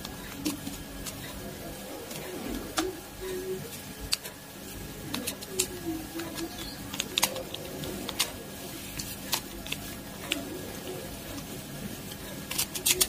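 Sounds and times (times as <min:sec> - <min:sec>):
dove cooing: 0:00.2 - 0:04.1, 0:04.7 - 0:13.0.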